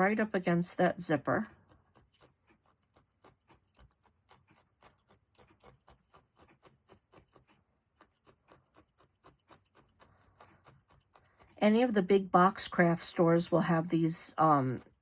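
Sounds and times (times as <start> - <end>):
felting needle scratchy pokes: 0.8 - 15.0.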